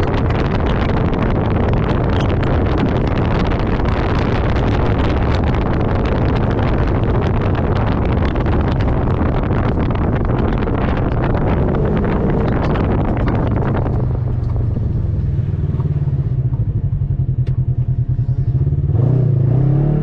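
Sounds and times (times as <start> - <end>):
off-road vehicle engine running: 0.0 - 20.0
wind noise on microphone: 0.0 - 20.0.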